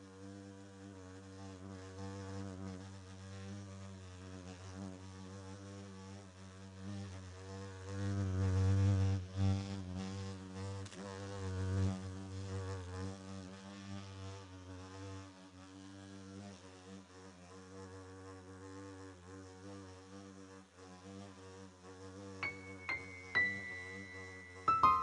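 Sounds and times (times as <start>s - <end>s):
fly buzzing: 0.0s - 25.0s.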